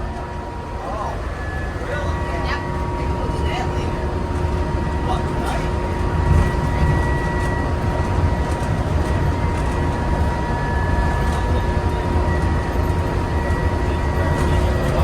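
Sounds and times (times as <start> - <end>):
monorail train rumbling and whining: 0.0 - 15.0.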